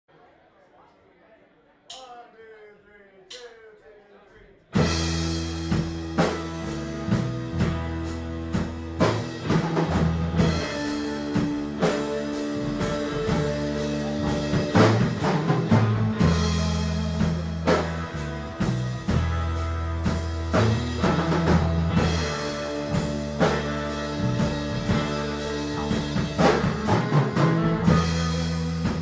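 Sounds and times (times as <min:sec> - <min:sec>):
drum kit steady beat: 0:04.7 - 0:29.0
electric guitar: 0:04.8 - 0:29.0
sustained bass notes: 0:04.8 - 0:29.0.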